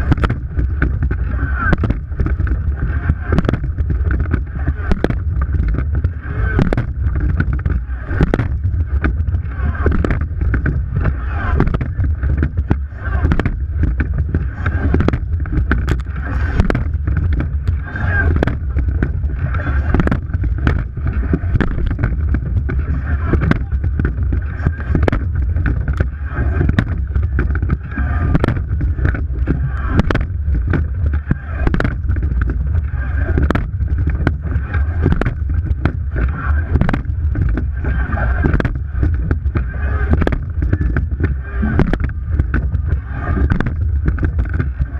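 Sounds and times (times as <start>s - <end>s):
low rumble: 0.0s - 44.9s
sharp knocks of oars: 0.0s - 44.9s
water rushing past boat: 0.0s - 44.9s.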